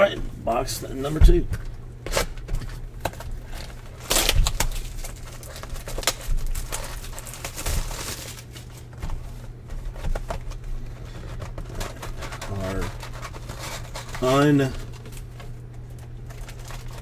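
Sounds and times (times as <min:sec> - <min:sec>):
plastic wrap and cardboard crinkling: 0:00.0 - 0:17.0.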